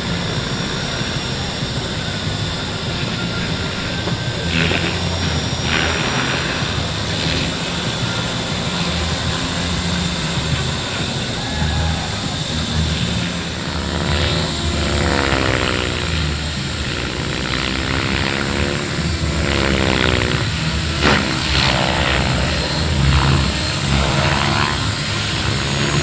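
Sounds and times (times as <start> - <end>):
model helicopter turbine engine: 0.0 - 26.0.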